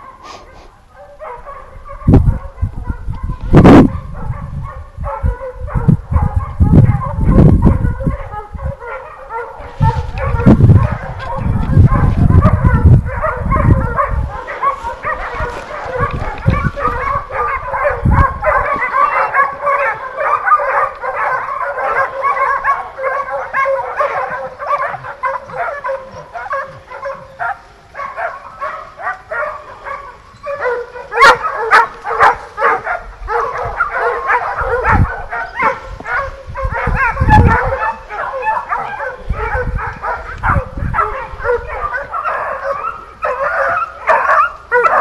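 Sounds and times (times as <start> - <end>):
hunting dogs baying and yelping: 0.0 - 45.0.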